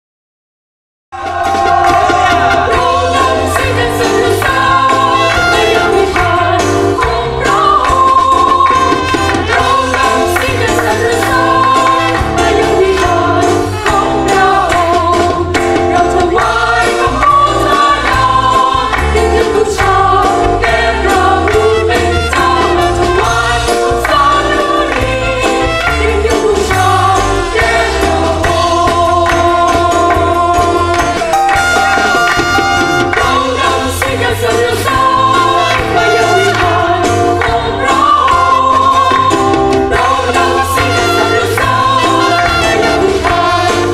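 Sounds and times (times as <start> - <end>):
group singing worship song: 1.2 - 43.9
instrumental backing with beat: 1.2 - 43.9.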